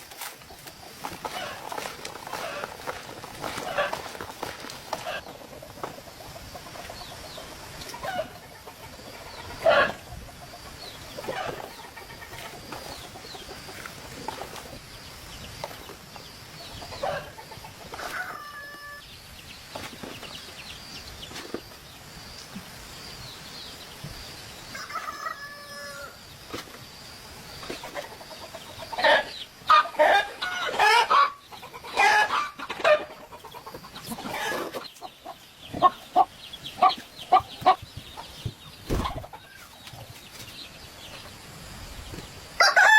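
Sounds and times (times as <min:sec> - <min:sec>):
chickens clucking and squawking: 0:00.0 - 0:22.2, 0:24.4 - 0:42.9.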